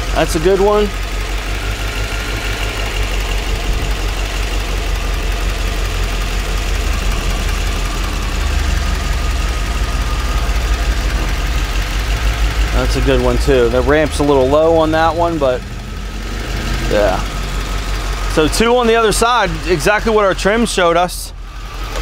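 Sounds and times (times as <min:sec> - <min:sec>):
car engine idling with misfire: 0:00.0 - 0:22.0.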